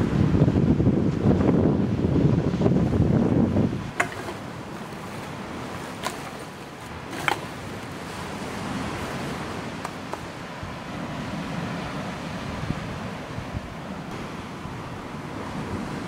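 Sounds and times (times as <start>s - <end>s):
surf: 0.0s - 16.0s
wind: 0.0s - 16.0s.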